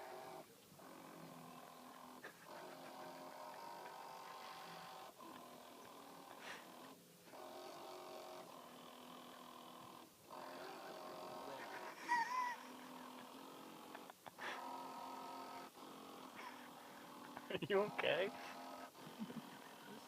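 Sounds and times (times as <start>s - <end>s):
small electric motor whining: 0.0s - 20.0s.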